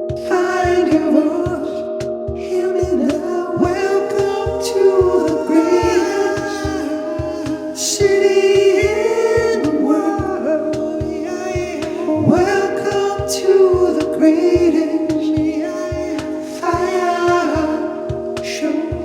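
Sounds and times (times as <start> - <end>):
layered wordless singing: 0.0 - 19.0
steady low beat: 0.0 - 19.0.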